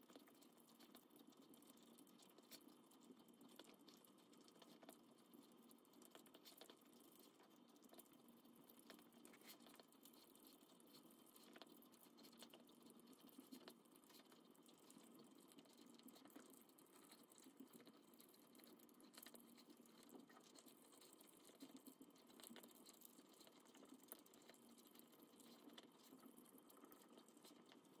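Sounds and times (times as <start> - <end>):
tongue and teeth clicking on metal bowl: 0.0 - 28.0
dog licking and chewing food: 0.1 - 28.0.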